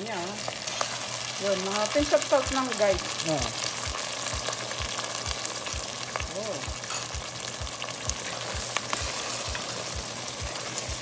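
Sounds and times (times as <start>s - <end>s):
pork sizzling and bubbling in pot: 0.0s - 11.0s.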